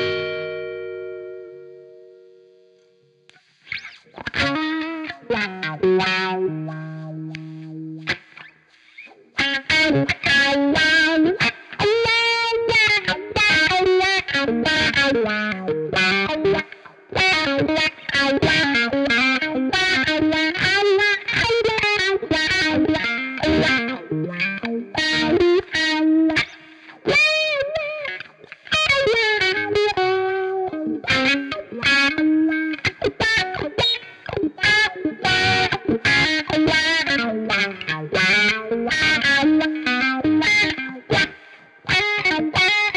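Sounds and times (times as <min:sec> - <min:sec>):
distorted electric guitar lead: 0:00.0 - 0:42.9.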